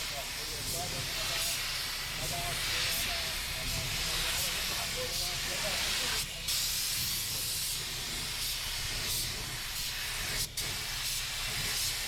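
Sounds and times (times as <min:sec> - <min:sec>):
spray paint gun hissing: 0:00.0 - 0:12.0.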